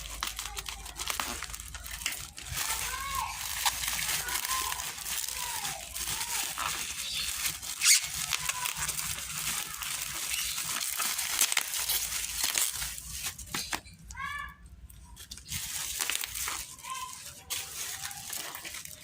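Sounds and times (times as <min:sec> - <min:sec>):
plastic packaging crinkling: 0:00.0 - 0:14.2, 0:14.9 - 0:19.0.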